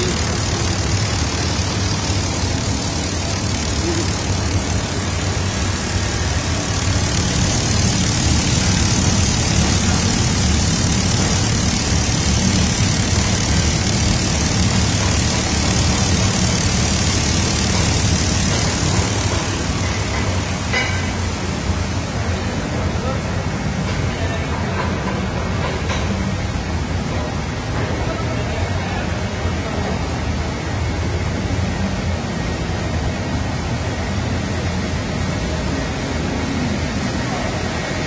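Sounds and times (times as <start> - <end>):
industrial oven machine hum: 0.0 - 38.0.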